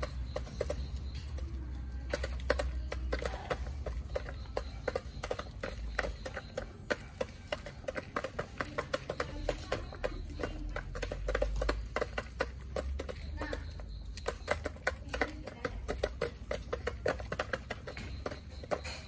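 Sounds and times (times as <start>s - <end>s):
chickens pecking plastic feeder: 0.0s - 19.0s.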